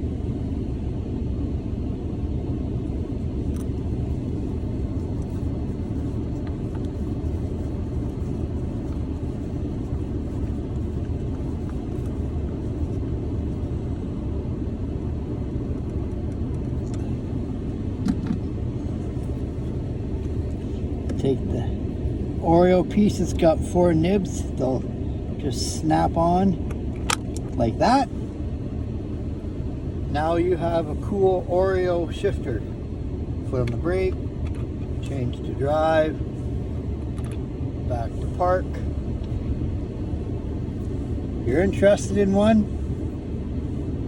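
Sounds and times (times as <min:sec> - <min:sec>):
heater blower fan running: 0:00.0 - 0:44.0.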